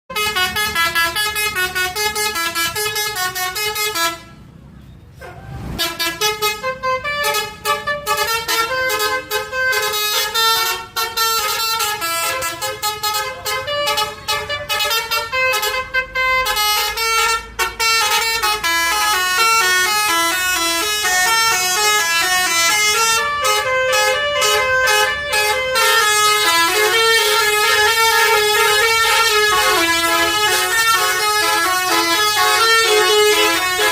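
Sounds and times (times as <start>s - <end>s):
air horns playing a melody: 0.1s - 4.4s, 5.2s - 33.9s.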